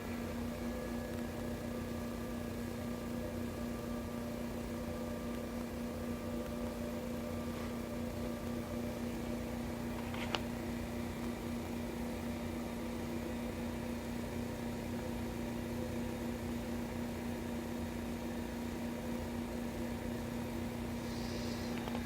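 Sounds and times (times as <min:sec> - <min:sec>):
lab equipment humming: 0:00.0 - 0:22.0.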